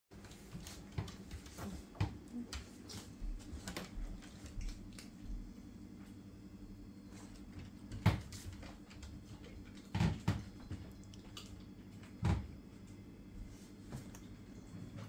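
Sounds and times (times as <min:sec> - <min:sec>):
low steady hum: 0:00.2 - 0:15.0.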